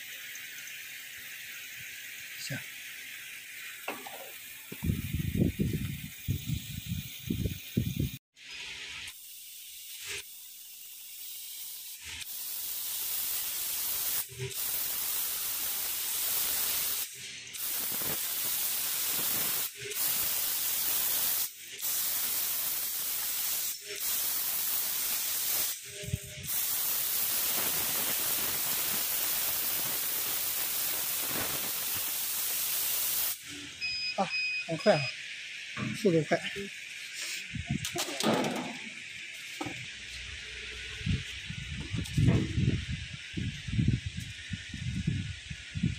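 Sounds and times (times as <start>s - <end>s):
air jet hissing at laser nozzle: 1.3s - 45.9s.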